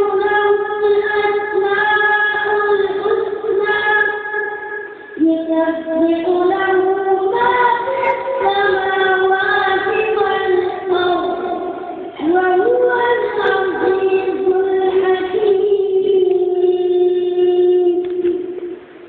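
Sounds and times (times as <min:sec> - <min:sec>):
high voice singing slow melody: 0:00.0 - 0:18.6.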